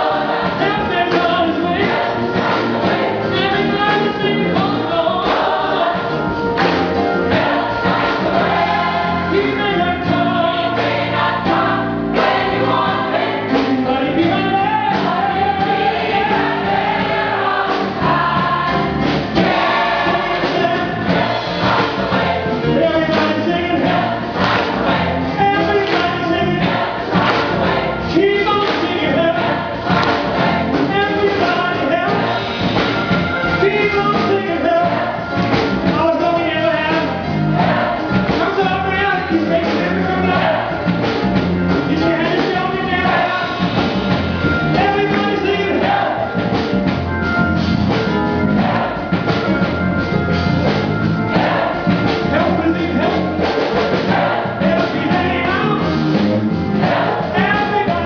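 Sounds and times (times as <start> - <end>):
band playing steady beat: 0.0 - 58.0
gospel choir singing: 0.0 - 58.0.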